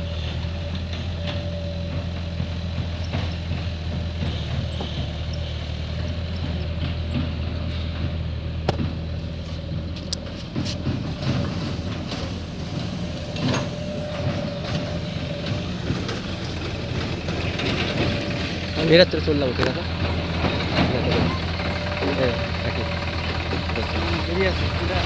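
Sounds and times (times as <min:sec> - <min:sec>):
tractor engine droning: 0:00.0 - 0:25.0
knocks and rattles: 0:00.6 - 0:25.0.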